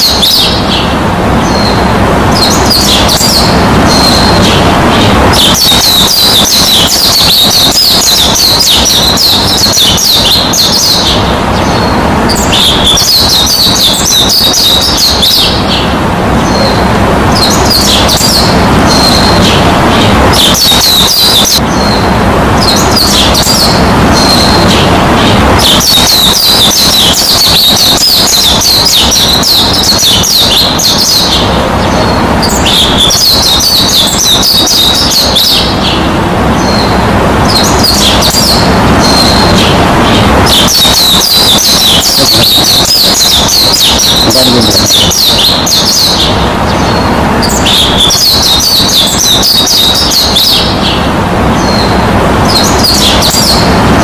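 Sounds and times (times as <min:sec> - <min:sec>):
songbirds chirping: 0:00.0 - 0:54.0
steady rushing noise: 0:00.0 - 0:54.0.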